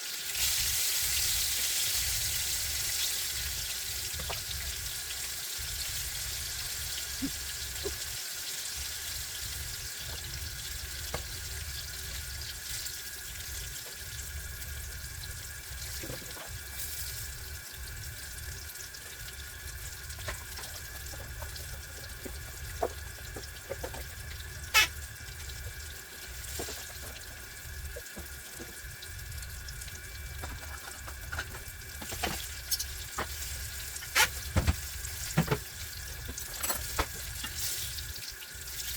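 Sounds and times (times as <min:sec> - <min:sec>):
food sizzling in hot oil: 0:00.0 - 0:38.9
oil crackling and popping: 0:00.0 - 0:38.9.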